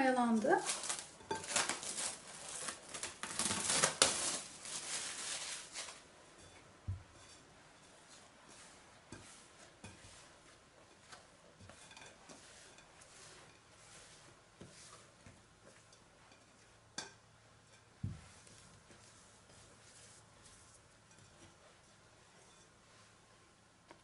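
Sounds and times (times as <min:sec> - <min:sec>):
handling glass bowl: 0:00.2 - 0:02.9, 0:03.6 - 0:23.2.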